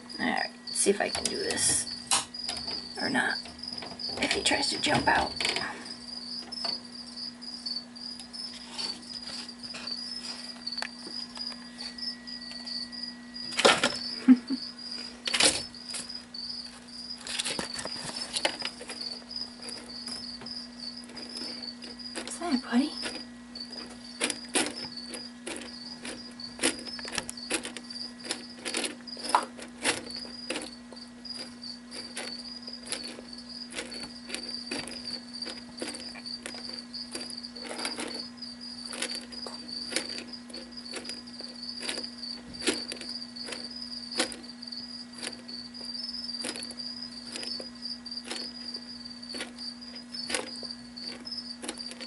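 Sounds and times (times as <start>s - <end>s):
cricket chirping: 0.0s - 52.0s
low even hum: 0.0s - 52.0s.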